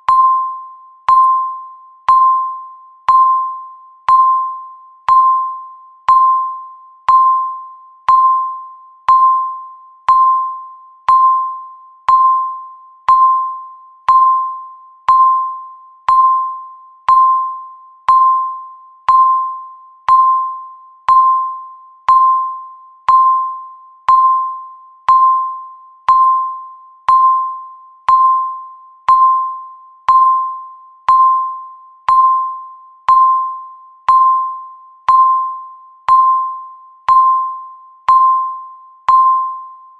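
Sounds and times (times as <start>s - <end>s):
countdown timer beep: 0.0s - 39.9s.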